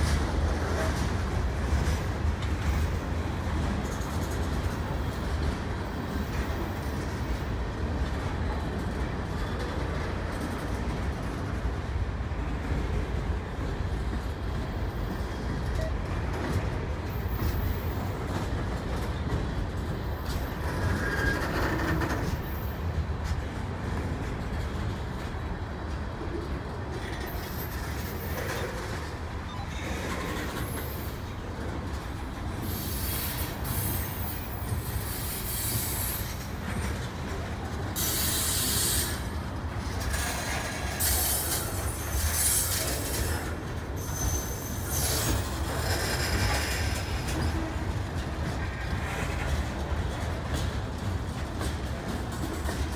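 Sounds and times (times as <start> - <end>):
steel wheels rumbling on rail: 0.0 - 52.9.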